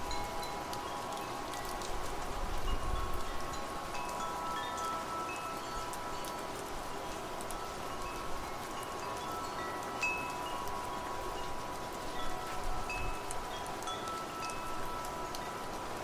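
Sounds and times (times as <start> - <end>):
rain hiss: 0.0 - 16.0
wind chimes ringing: 0.0 - 16.0.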